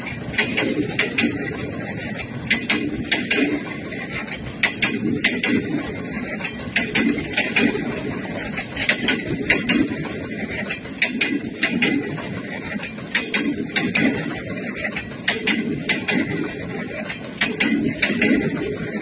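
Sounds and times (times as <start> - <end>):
low train rumble: 0.0 - 19.0
train wheels clattering on track: 0.0 - 19.0.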